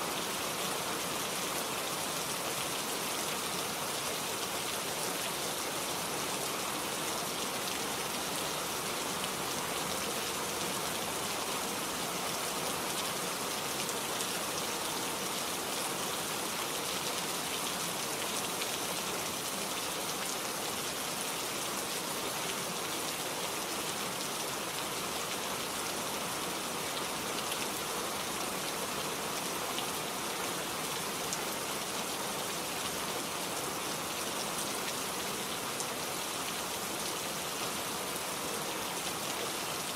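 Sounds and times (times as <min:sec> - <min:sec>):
rain pattering in forest: 0:00.0 - 0:39.9.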